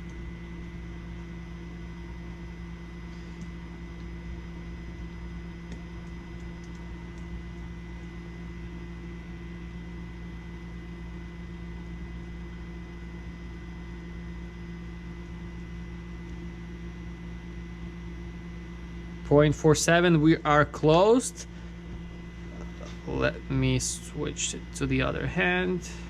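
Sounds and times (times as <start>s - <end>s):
small pump humming: 0.0s - 26.0s.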